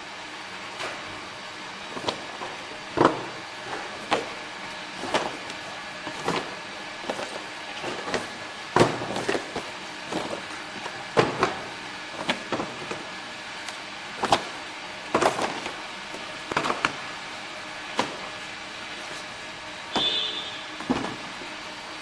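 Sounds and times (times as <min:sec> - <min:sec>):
box sealing machine running: 0:00.4 - 0:22.0.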